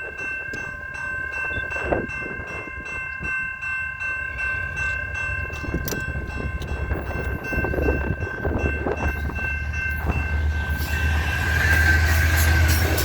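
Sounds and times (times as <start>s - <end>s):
wheels clicking over rail joints: 0.0s - 10.9s
diesel locomotive engine rumble: 0.0s - 13.0s.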